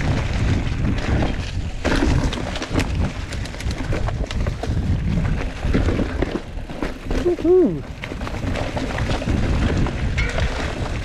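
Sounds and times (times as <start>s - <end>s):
bike clicks and rattles: 0.0s - 11.0s
wind noise on microphone: 0.0s - 11.0s.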